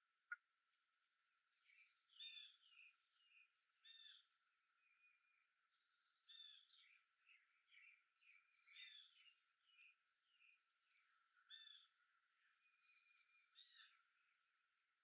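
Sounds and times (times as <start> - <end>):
birds chirping: 1.0 - 14.8.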